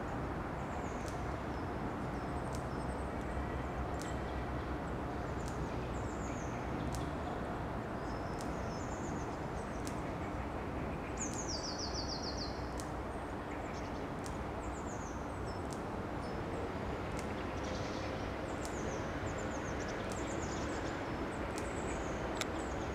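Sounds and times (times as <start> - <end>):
outdoor background noise: 0.0 - 22.9
songbirds chirping: 0.0 - 22.9.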